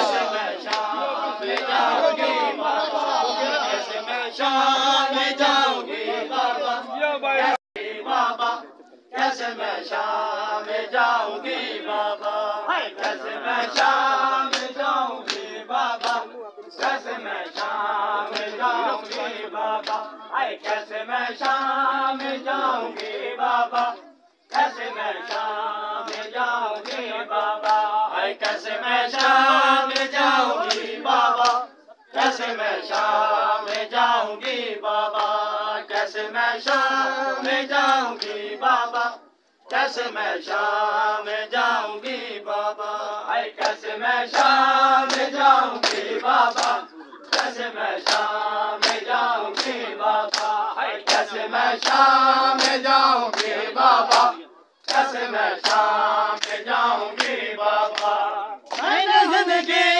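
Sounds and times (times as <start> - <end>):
men chanting together: 0.0 - 59.9.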